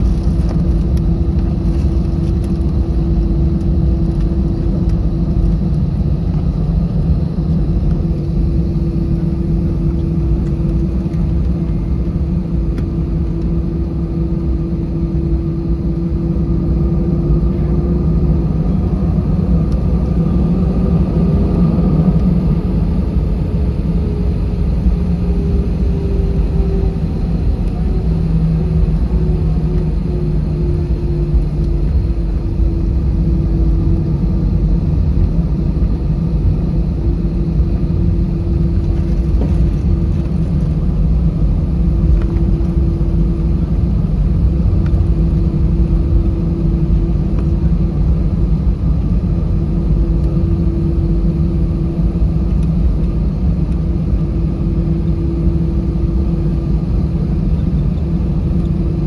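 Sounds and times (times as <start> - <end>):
jet engines idling: 0.0 - 59.0
steady cabin hum: 0.0 - 59.0.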